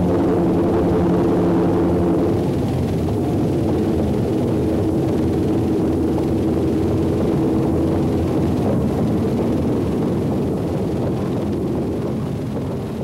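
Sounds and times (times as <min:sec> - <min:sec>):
freight wagons rumbling on rails: 0:00.0 - 0:13.0.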